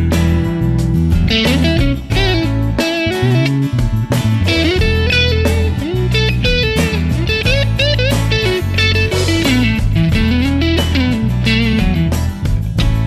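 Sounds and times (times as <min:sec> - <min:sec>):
guitar instrumental with bass: 0:00.0 - 0:13.0.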